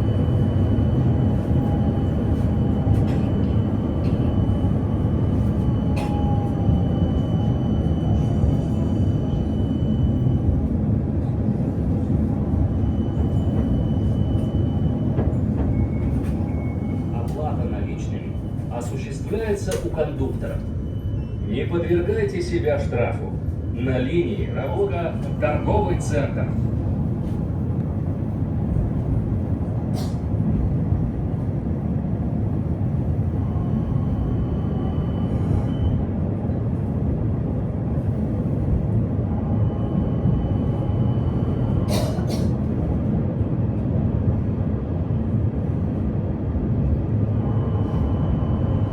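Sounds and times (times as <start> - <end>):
tram wheels rumbling on rail: 0.0 - 48.9.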